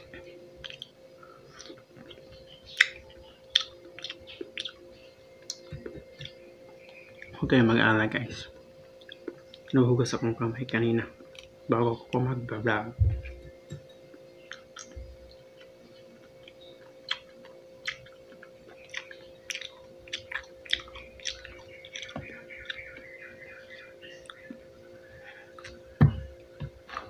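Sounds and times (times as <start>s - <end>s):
chewing juicy fruit: 0.0s - 7.5s, 8.3s - 11.6s, 13.3s - 24.7s, 25.5s - 27.0s.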